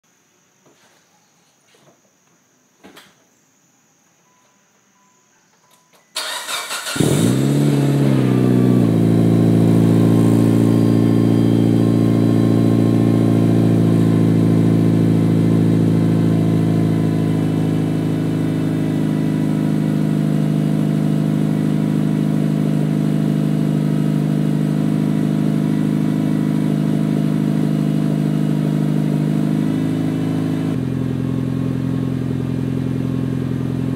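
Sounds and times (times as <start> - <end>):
car engine starting and idling: 6.1 - 33.9.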